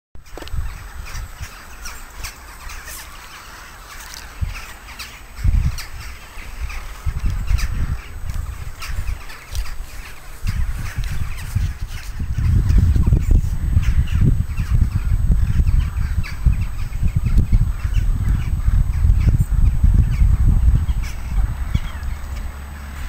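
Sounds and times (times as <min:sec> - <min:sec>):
birds chirping: 0:00.2 - 0:23.0
wind rumbling on microphone: 0:00.2 - 0:23.0.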